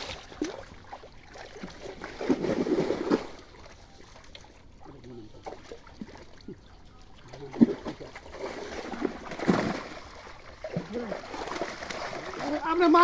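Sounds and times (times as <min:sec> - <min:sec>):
pond water splashing: 0:00.0 - 0:13.0.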